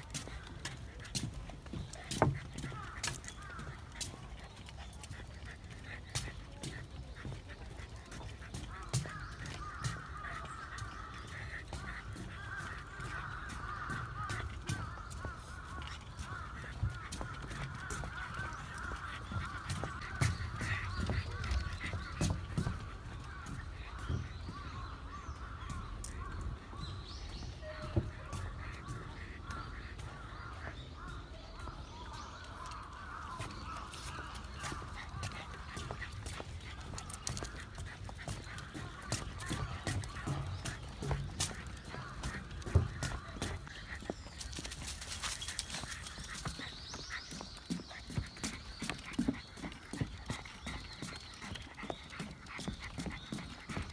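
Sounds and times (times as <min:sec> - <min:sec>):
flock of birds chattering: 0:00.0 - 0:53.9
footsteps on wooden boardwalk: 0:00.0 - 0:53.9.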